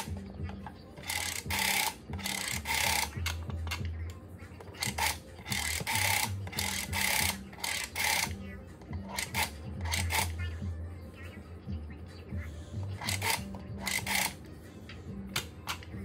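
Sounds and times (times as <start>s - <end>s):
rotary dial whirring: 0.0s - 10.5s, 12.8s - 16.0s
background music: 0.0s - 16.0s.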